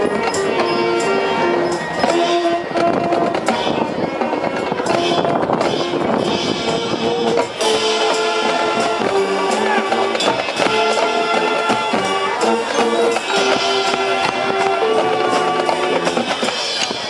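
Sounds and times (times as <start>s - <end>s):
brass and wind chords: 0.0s - 17.0s
marching band playing: 0.0s - 17.0s
percussion hits: 0.0s - 17.0s.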